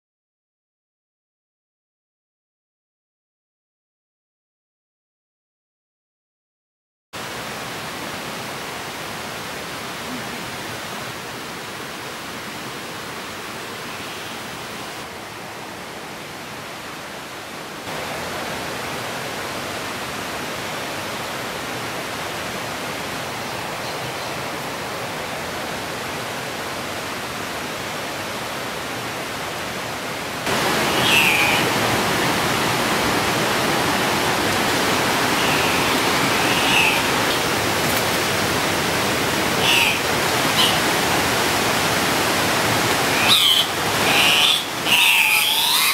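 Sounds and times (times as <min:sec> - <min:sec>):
forest ambience rushing noise: 0:07.2 - 0:45.9.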